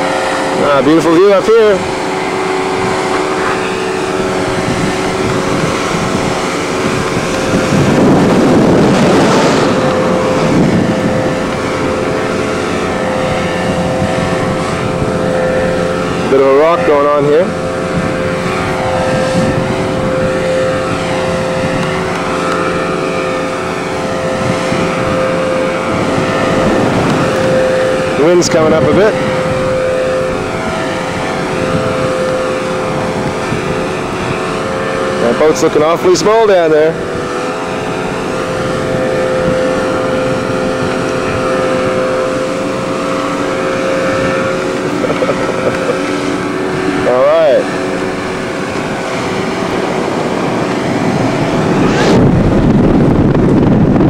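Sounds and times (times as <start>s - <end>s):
steady humming tone: 0.0s - 54.0s
wind buffeting microphone: 0.0s - 54.0s.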